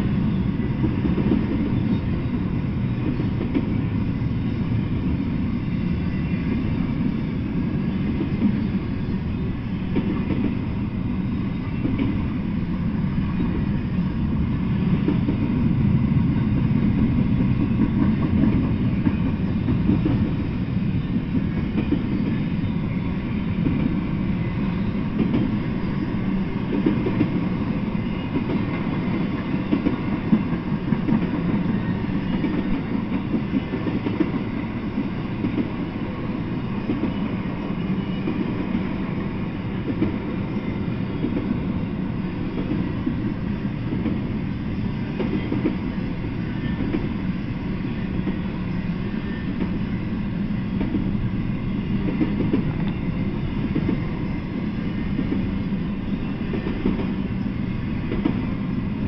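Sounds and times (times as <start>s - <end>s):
freight train wheels rumbling: 0.0s - 59.0s
train cars clacking and rattling: 0.0s - 59.0s.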